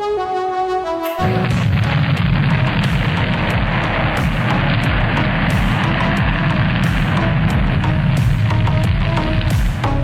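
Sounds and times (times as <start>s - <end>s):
heavy low rumble: 1.2s - 10.0s.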